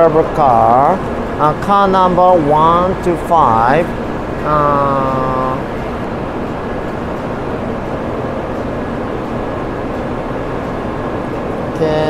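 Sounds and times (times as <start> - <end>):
railway station background noise: 0.0 - 12.0.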